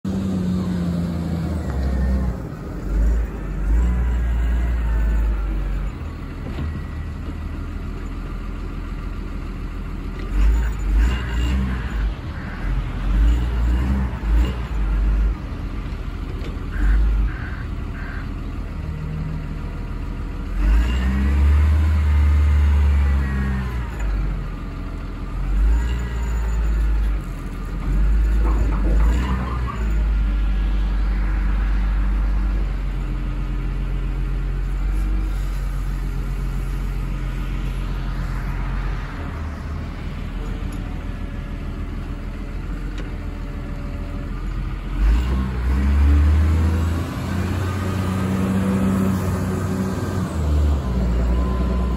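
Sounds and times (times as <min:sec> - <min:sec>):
diesel engine revving: 0:00.0 - 0:51.9.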